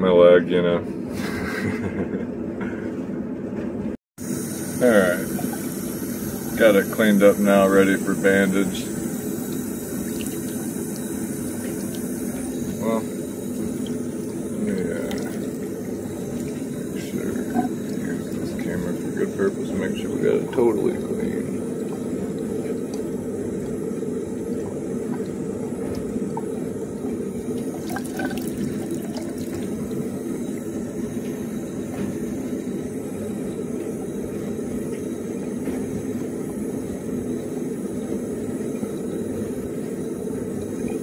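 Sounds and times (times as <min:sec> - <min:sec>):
water running into bathtub: 0:04.6 - 0:41.0.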